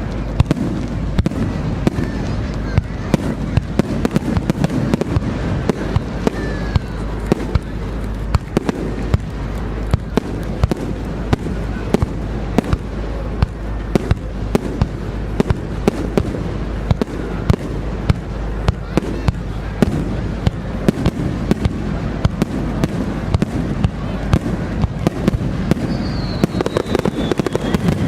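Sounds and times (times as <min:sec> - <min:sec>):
fireworks bangs and pops: 0:00.0 - 0:28.0
low steady background rumble: 0:00.0 - 0:28.0.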